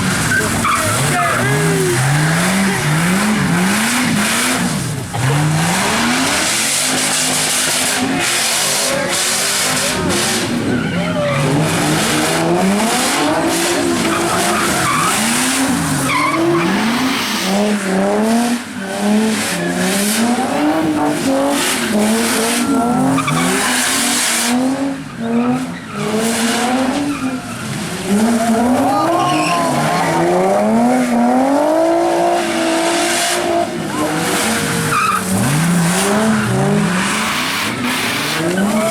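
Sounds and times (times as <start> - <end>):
car engine revving: 0.0 - 38.9
tyres skidding on pavement: 0.0 - 38.9.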